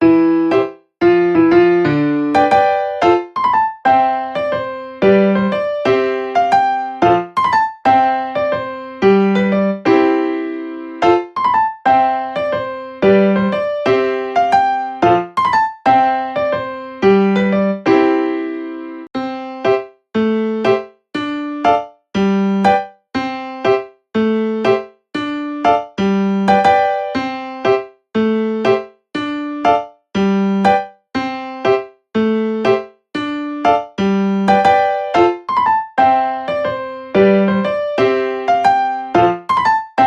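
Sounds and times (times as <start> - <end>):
electric piano melody: 0.0 - 40.0.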